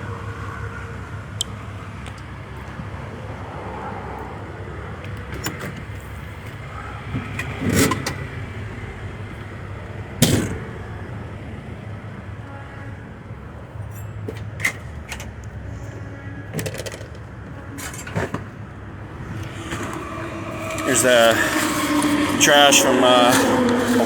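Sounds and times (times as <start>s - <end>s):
motor vehicles low rumble: 0.0s - 24.0s.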